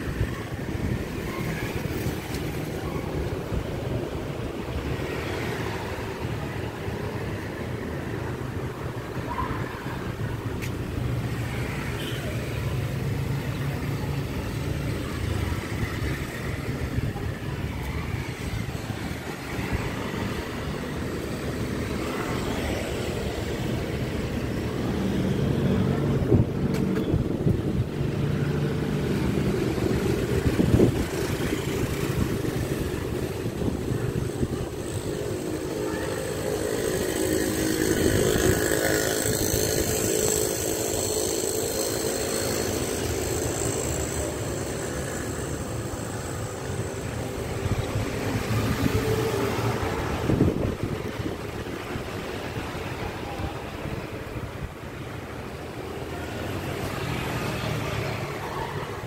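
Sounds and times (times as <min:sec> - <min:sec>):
motorbike street traffic: 0:00.0 - 0:59.0.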